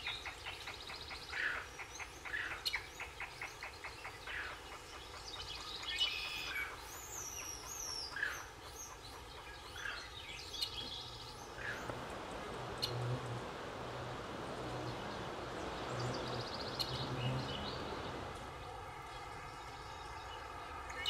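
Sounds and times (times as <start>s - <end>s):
forest birds calling: 0.0s - 21.0s.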